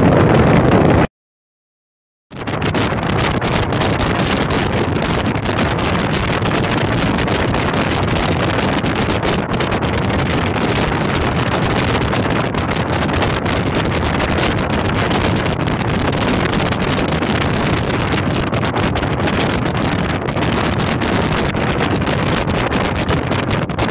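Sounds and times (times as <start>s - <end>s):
boat running noise: 0.0s - 1.1s, 2.4s - 23.9s
wind rushing over microphone: 0.0s - 1.1s, 2.3s - 23.9s.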